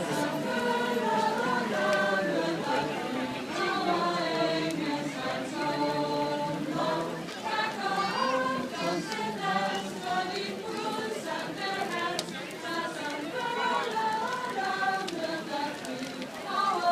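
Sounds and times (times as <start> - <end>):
group of people singing: 0.0 - 16.9.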